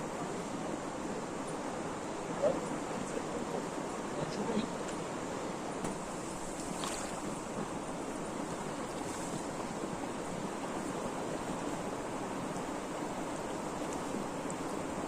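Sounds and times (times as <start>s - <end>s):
river water rushing over rocks: 0.0s - 15.0s.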